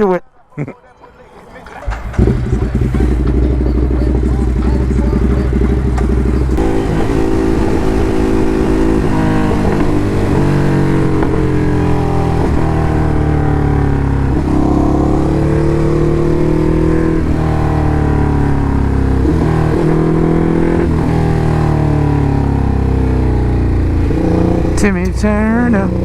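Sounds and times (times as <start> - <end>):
motorcycle engine shifting gears: 1.3 - 26.0.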